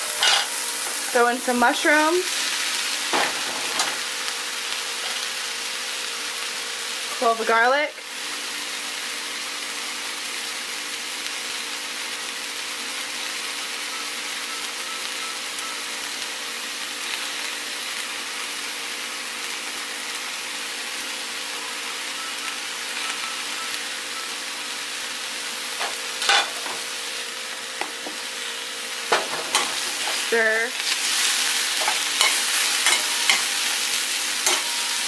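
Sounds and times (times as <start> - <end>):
vegetables sizzling in a pan: 0.0 - 35.0.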